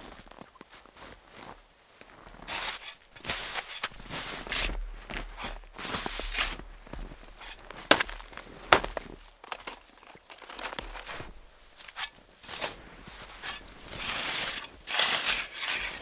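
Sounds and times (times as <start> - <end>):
snowshoe footsteps crunching snow: 0.0 - 16.0.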